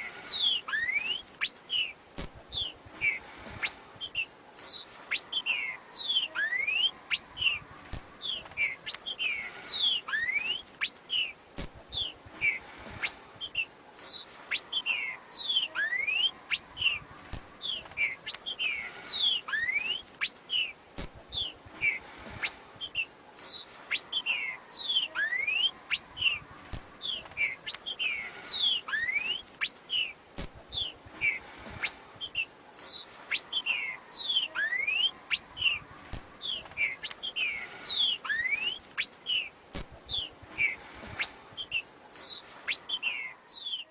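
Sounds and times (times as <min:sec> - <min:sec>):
bird whistled calls: 0:00.2 - 0:43.9.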